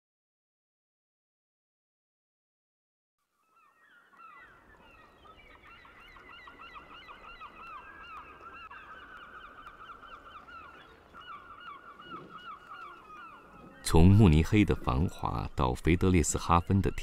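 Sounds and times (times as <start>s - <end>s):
waterbirds calling: 3.3s - 17.0s.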